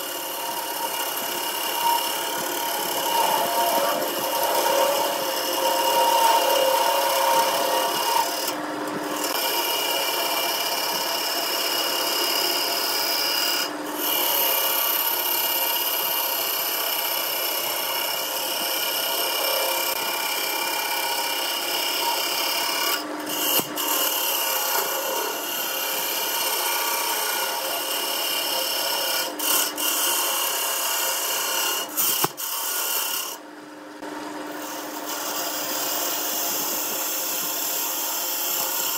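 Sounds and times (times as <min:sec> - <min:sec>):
lathe tool cutting wood shavings: 0:00.0 - 0:33.4, 0:34.5 - 0:38.9.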